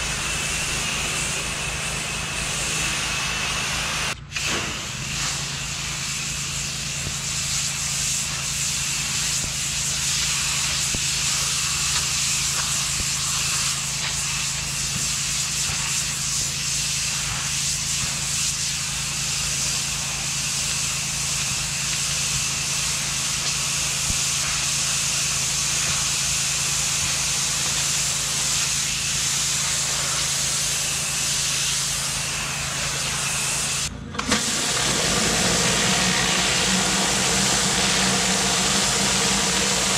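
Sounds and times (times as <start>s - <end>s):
pressure washer jet hissing: 0.0s - 39.9s
pressure washer low hum: 0.0s - 39.9s.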